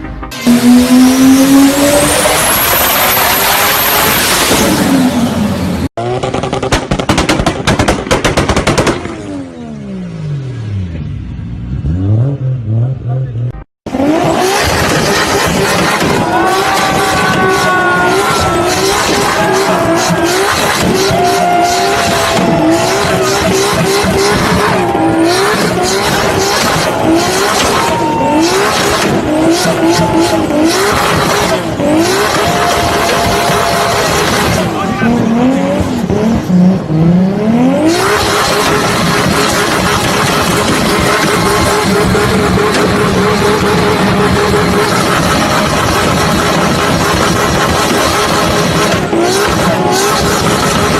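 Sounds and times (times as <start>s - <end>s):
exhaust bangs and crackles: 0.3s - 9.9s, 13.8s - 50.9s
car engine at high revs: 0.3s - 50.9s.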